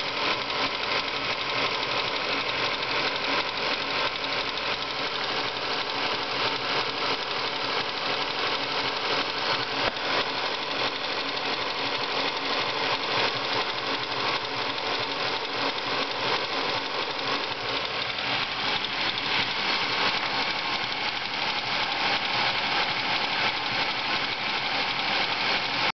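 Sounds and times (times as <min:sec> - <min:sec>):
car engine running: 0:00.0 - 0:25.9
fast ticking from engine: 0:00.0 - 0:25.9.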